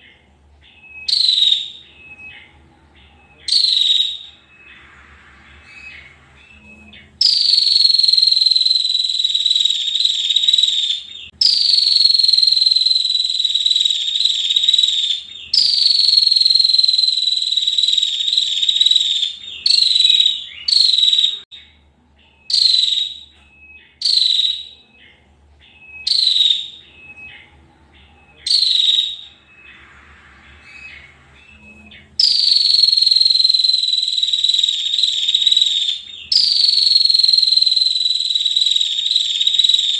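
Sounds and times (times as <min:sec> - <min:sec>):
bird calling in high trills: 0:00.0 - 0:39.9.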